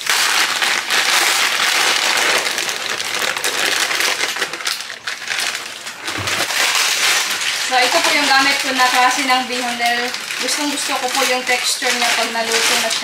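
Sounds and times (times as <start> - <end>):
dry noodles crunching: 0.0 - 13.0
plastic packet crinkling: 0.0 - 13.0.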